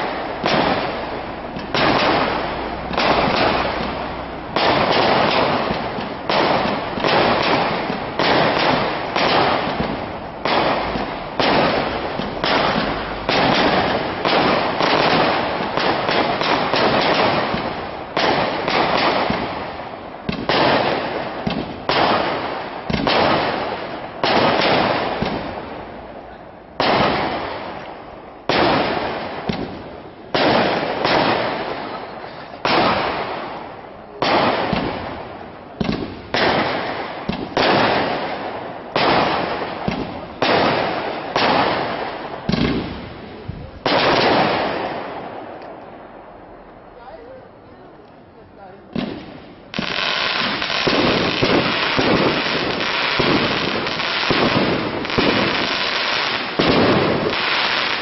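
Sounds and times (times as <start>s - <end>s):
firework shells bursting: 0.0s - 26.0s, 26.8s - 46.6s, 48.9s - 58.0s.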